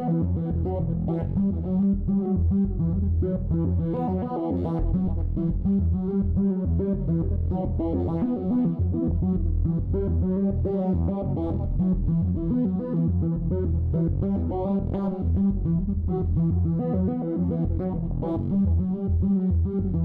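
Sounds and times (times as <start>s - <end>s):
heavy bass line: 0.0s - 20.0s.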